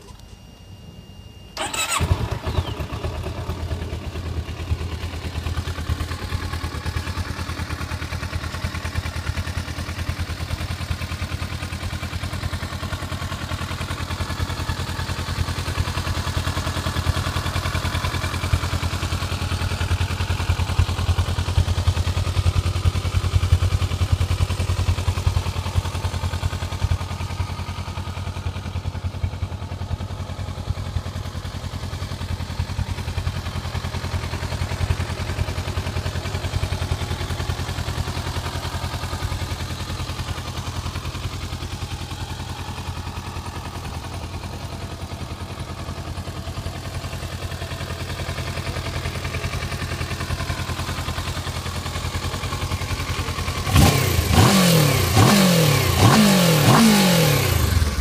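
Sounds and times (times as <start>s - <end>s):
motorcycle engine idling: 1.6s - 58.0s.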